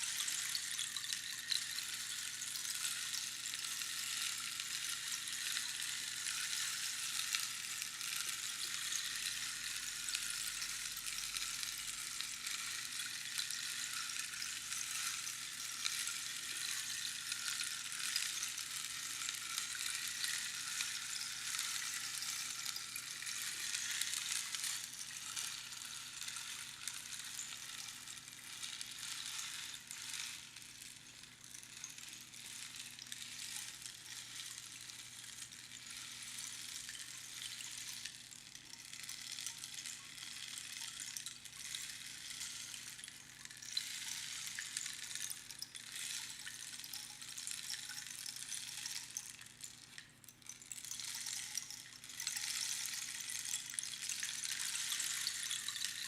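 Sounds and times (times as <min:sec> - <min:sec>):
rainstick rattle: 0:00.0 - 0:56.0.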